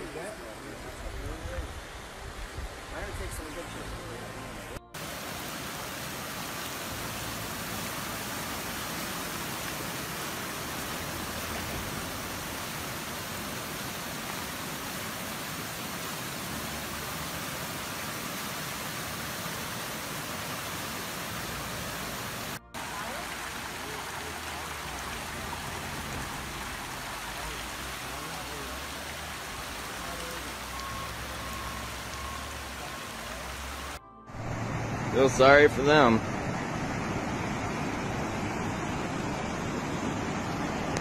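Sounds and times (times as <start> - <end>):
floodwater rushing over road: 0.0 - 41.0.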